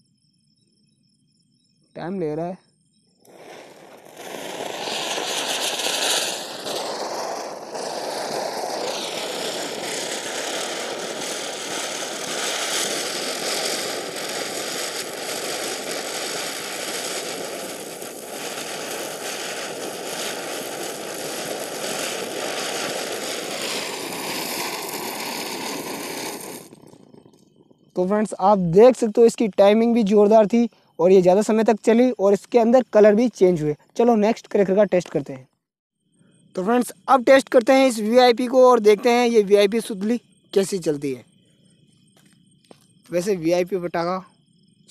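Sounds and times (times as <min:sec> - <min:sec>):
spinning firecracker hissing: 0:02.8 - 0:35.1, 0:36.0 - 0:44.9.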